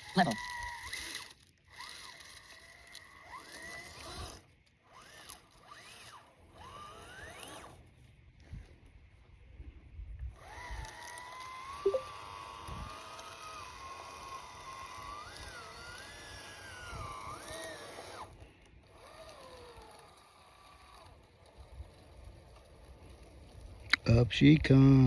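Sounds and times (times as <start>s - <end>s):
electric motor whining: 0.0s - 7.8s, 10.4s - 23.6s.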